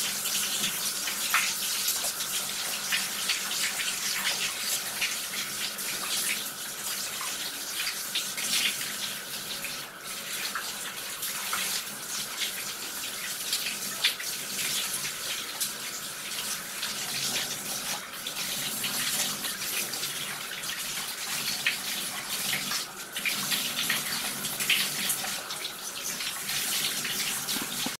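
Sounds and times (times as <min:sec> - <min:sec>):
shower spray splashing into tub: 0:00.0 - 0:28.0.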